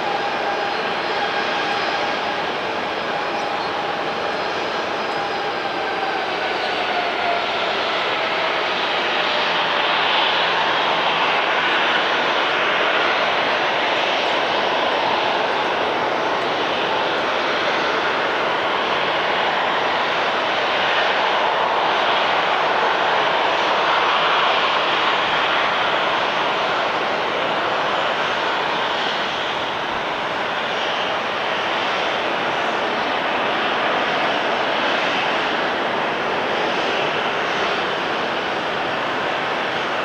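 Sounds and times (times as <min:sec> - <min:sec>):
jet engines roaring: 0:00.0 - 0:40.0.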